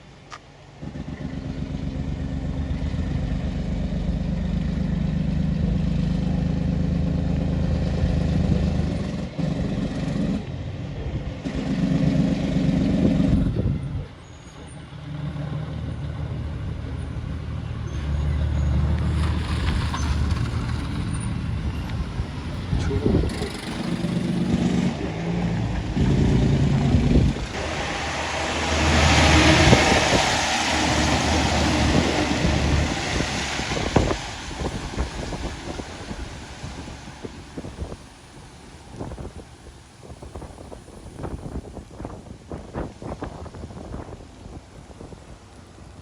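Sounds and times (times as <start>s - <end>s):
heavy truck engine labouring: 0.0s - 46.0s.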